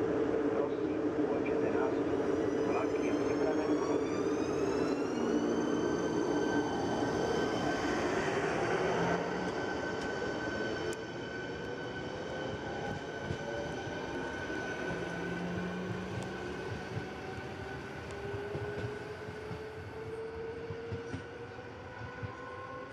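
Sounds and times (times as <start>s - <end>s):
electric train traction whine: 0.0s - 22.9s.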